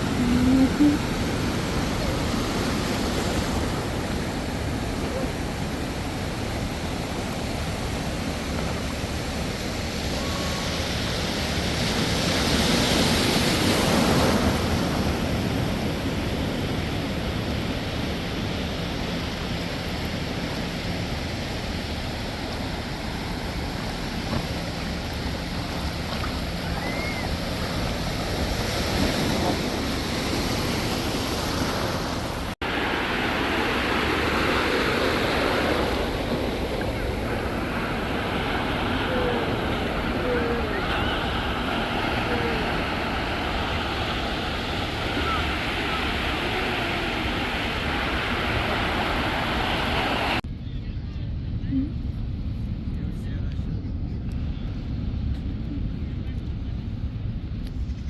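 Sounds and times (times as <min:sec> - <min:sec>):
ocean surf washing in: 0:00.0 - 0:50.5
wind buffeting microphone: 0:00.0 - 0:58.0.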